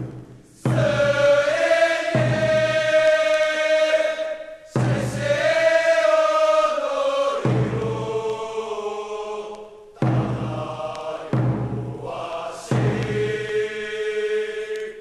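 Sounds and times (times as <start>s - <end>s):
group singing in unison: 0.5s - 15.0s.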